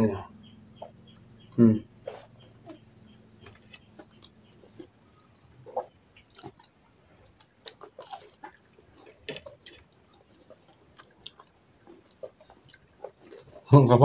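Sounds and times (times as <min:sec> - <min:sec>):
person chewing crisp pastry: 0:02.0 - 0:13.7.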